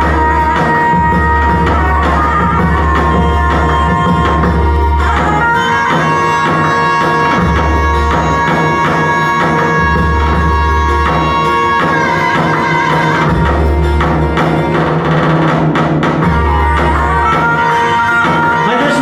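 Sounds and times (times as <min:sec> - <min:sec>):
fast hand drum beat: 0:00.0 - 0:19.0
pulsing bass: 0:00.0 - 0:19.0.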